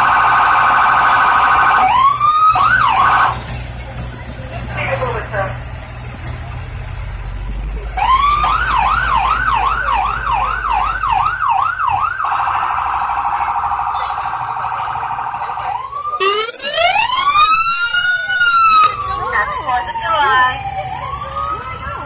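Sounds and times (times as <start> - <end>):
emergency vehicle siren: 0.0 - 3.7, 7.8 - 22.0.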